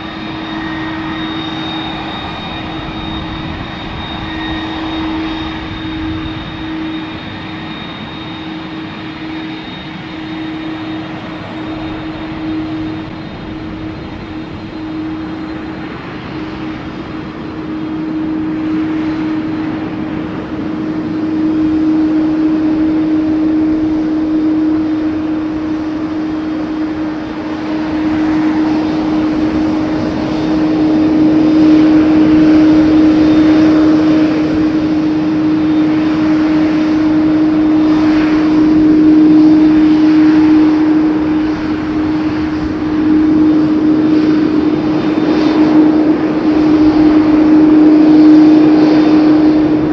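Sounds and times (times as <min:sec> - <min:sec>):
jet airliner passing overhead: 0:00.0 - 0:49.9.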